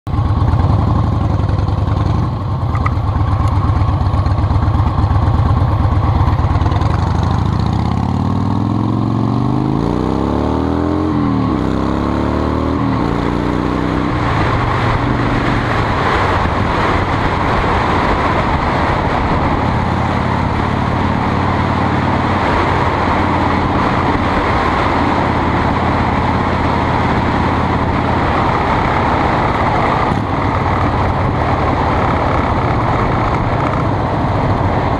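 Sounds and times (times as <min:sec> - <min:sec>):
road noise: 0:00.0 - 0:34.9
vehicle engine revving: 0:05.1 - 0:34.9.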